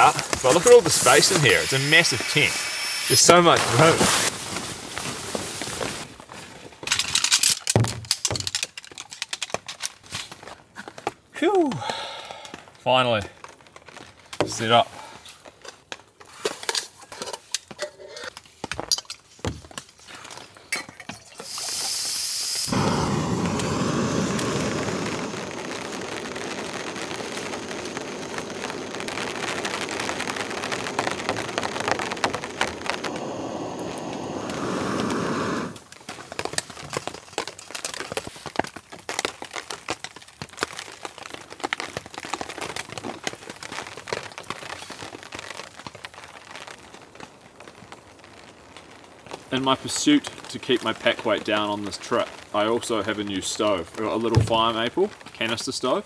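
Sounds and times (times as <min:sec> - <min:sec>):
steady rush of rain: 0:00.0 - 0:06.3, 0:11.4 - 0:15.6, 0:21.2 - 0:56.0
rain pattering on a tarp: 0:00.0 - 0:56.0.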